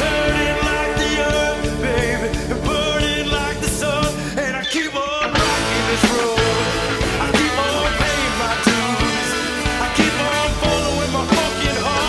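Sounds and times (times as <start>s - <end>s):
steady drum beat: 0.0s - 4.4s, 5.4s - 12.0s
person singing: 0.0s - 12.0s.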